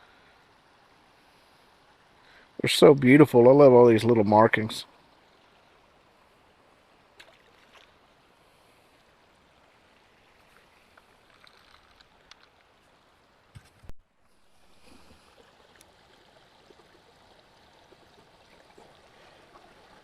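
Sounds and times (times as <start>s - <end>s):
creek water flowing: 0.0s - 20.0s.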